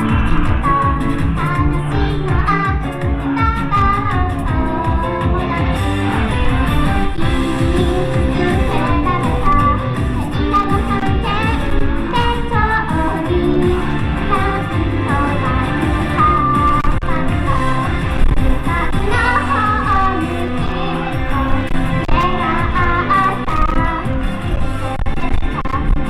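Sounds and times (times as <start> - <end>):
loud amplified backing music: 0.0 - 26.0
woman singing: 0.0 - 26.0.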